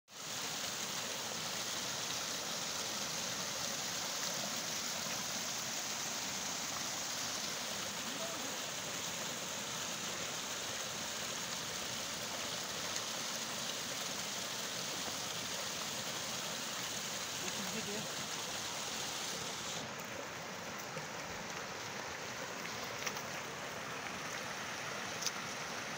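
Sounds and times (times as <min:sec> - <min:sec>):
stream water rushing: 0:00.1 - 0:25.9.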